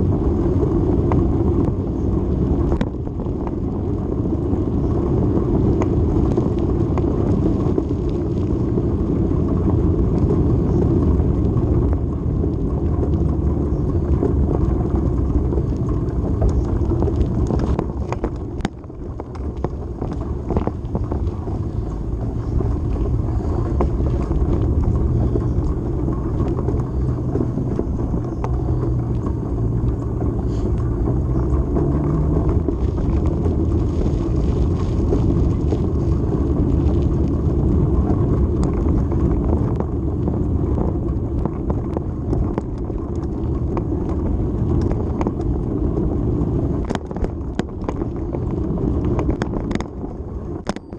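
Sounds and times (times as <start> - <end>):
motorcycle engine rumble: 0.0 - 50.9
wind noise: 0.0 - 50.9.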